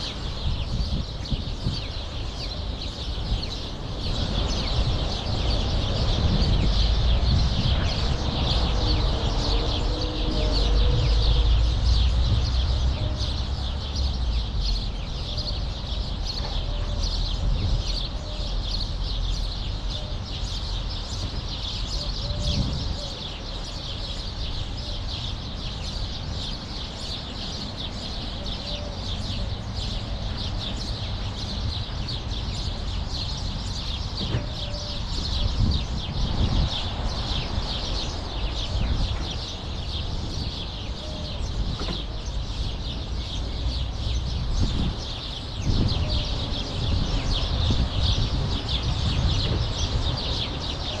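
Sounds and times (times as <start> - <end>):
sparrows chirping: 0.0 - 51.0.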